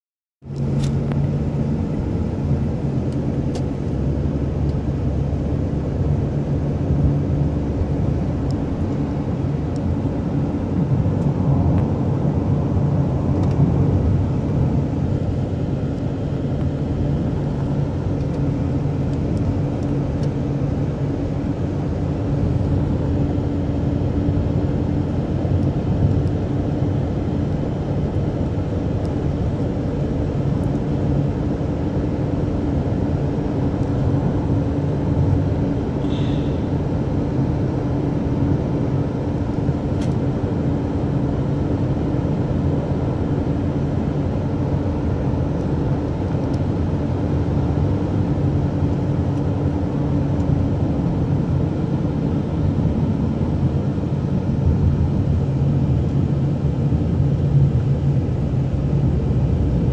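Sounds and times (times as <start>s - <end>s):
car engine and tyre hum: 0.4s - 59.9s.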